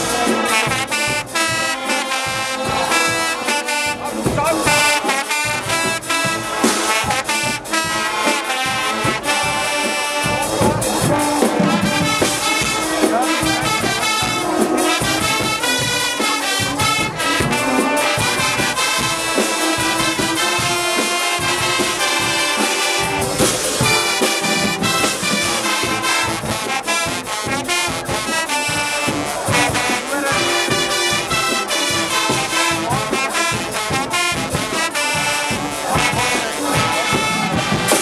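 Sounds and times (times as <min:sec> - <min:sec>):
brass band playing: 0:00.0 - 0:38.0
drums and cymbals beat: 0:00.0 - 0:38.0.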